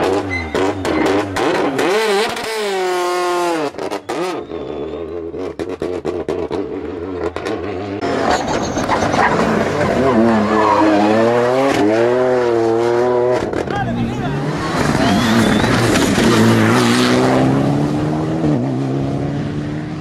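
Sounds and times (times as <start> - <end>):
car engine revving hard: 0.0 - 4.4, 5.3 - 20.0
car engine downshifting: 0.0 - 20.0.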